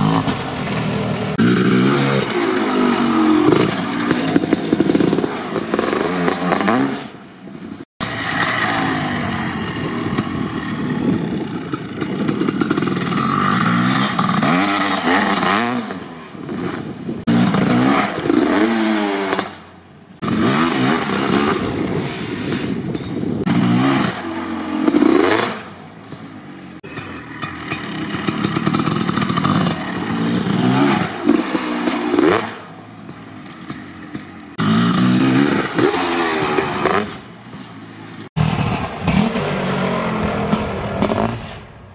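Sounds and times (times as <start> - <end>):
dirt bike engine revving: 0.0 - 7.2, 8.0 - 38.3.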